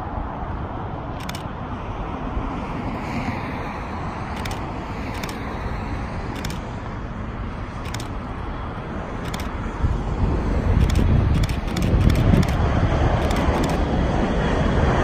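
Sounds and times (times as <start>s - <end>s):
distant jet engines rumbling: 0.0s - 15.0s
road traffic noise: 0.0s - 15.0s.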